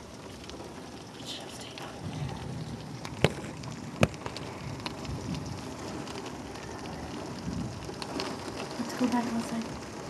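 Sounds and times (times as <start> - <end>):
heavy rain on hard surfaces: 0.0 - 10.0
raindrops ticking close by: 0.0 - 10.0.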